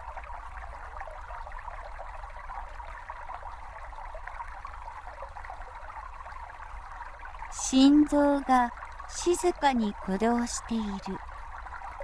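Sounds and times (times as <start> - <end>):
brook babbling over stones: 0.0 - 12.0.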